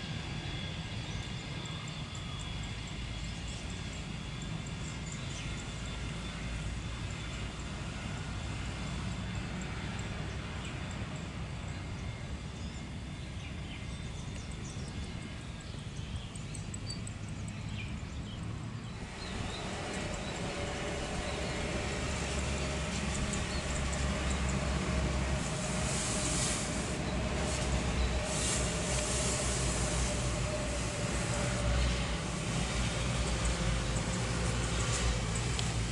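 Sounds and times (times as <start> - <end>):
jet engine whine: 0.0 - 35.9
jet engines rumbling: 0.0 - 35.9.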